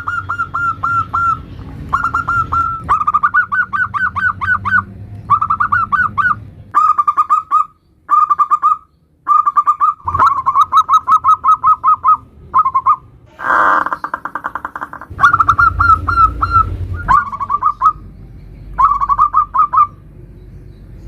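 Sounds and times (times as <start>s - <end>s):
doves cooing in quick stuttering notes: 0.0s - 18.0s.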